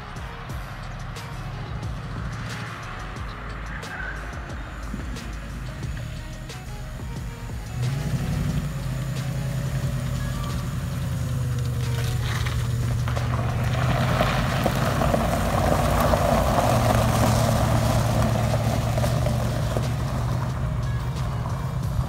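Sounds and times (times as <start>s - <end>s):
car engine running: 0.0s - 22.0s
tyres crunching on gravel: 0.0s - 22.0s.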